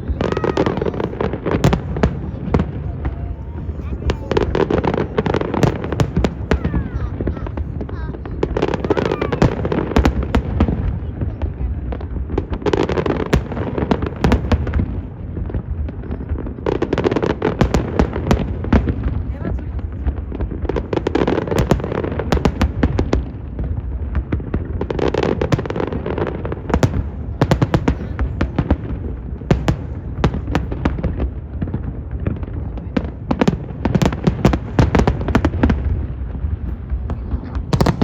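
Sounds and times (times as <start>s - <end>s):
fireworks cracking and banging: 0.0s - 38.0s
low rumble of bursting shells: 0.0s - 38.0s.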